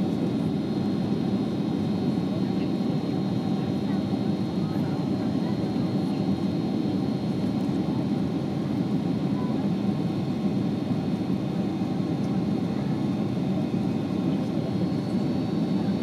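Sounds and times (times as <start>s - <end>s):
airliner engine and airflow noise: 0.0s - 16.0s.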